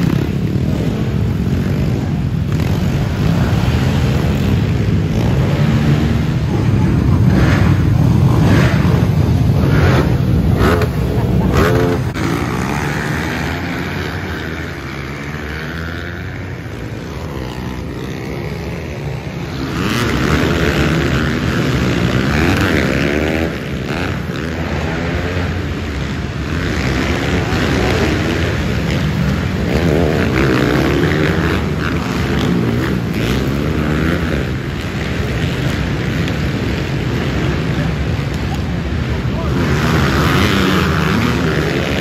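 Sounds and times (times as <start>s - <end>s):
pit bike engines revving: 0.0s - 42.0s.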